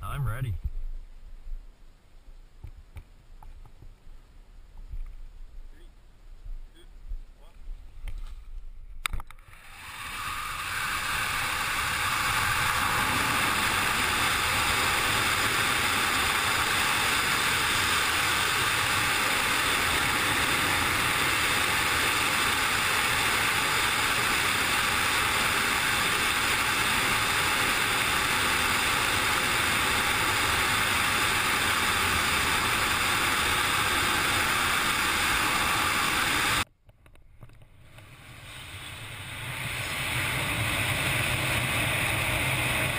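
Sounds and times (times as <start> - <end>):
wind rushing over camera: 6.4 - 42.9.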